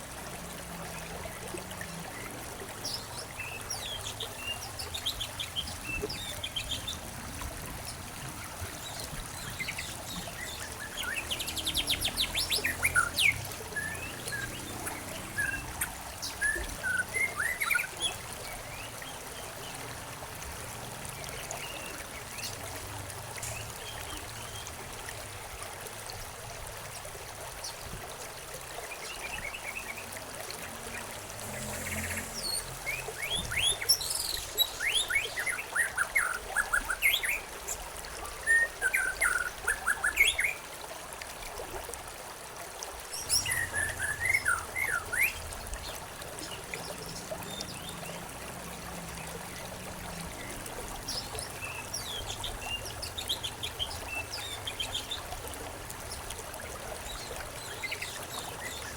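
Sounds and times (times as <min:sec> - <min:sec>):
trickle of running water: 0:00.0 - 0:58.9.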